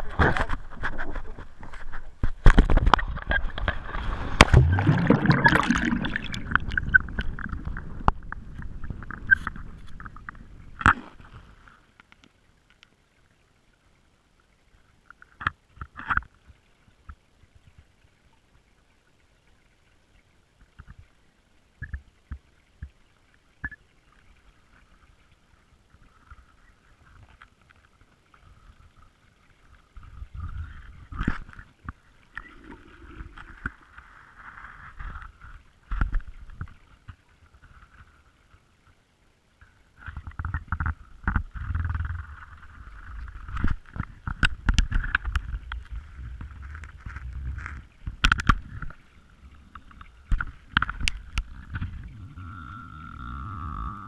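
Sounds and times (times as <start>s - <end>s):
faint underwater clicks: 0.0s - 54.0s
low rumbling water movement: 0.0s - 54.0s.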